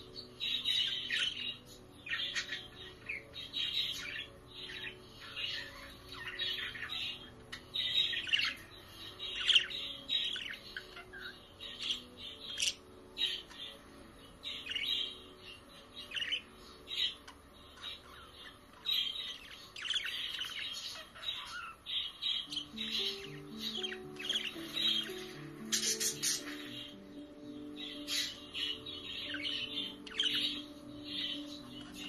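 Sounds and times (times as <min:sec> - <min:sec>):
budgerigars chirping and chattering: 0:00.0 - 0:32.0.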